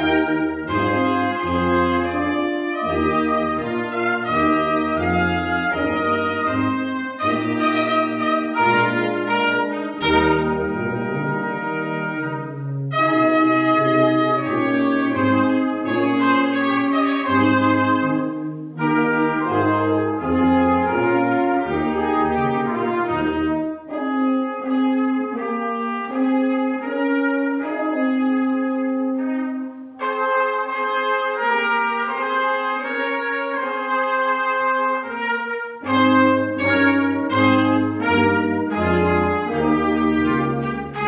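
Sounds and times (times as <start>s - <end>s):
brass ensemble playing slow chords: 0.0s - 41.0s.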